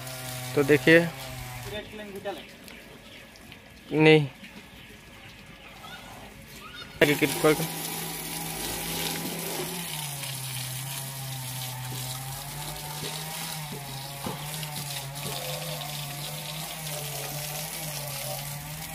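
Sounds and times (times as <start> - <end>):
hose water spraying on metal: 0.0 - 2.5, 5.8 - 18.9
water pump motor hum: 0.0 - 18.9.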